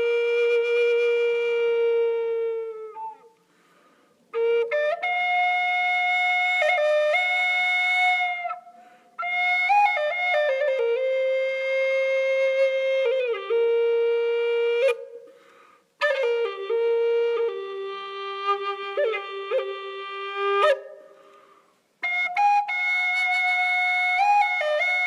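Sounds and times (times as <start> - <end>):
flute playing long notes: 0.0 - 3.5, 4.3 - 25.0.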